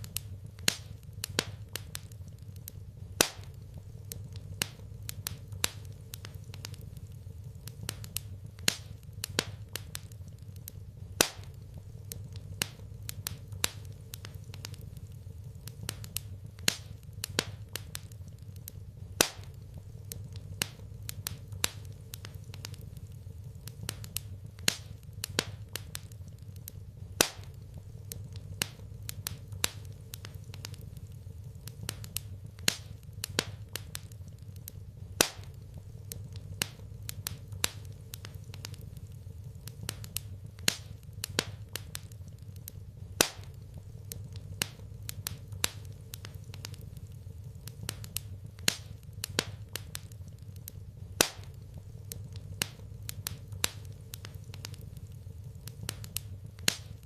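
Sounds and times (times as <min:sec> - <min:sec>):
steady low hum: 0:00.0 - 0:57.0
wood fire crackling: 0:00.0 - 0:57.0.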